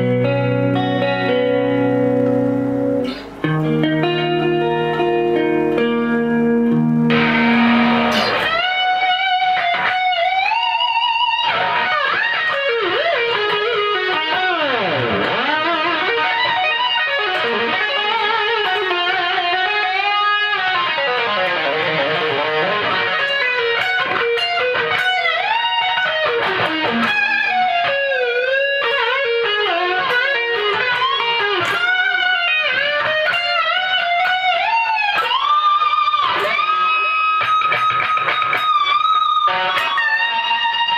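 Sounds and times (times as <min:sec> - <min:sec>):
electric guitar lead with bends: 0:00.0 - 0:40.9.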